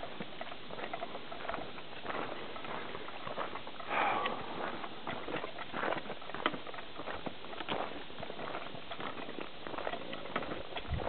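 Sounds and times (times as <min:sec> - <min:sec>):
footsteps on rocky dirt trail: 0:00.0 - 0:11.0.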